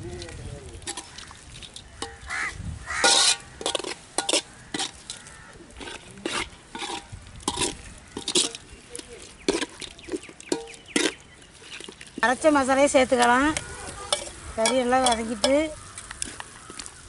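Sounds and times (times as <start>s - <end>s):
low sizzle: 0.0s - 17.0s
metal ladle scraping a metal pot: 0.8s - 16.9s.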